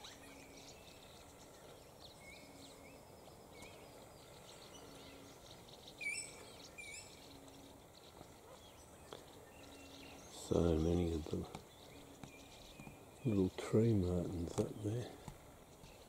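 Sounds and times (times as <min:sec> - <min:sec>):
high rising bird chirps: 0:00.0 - 0:14.2.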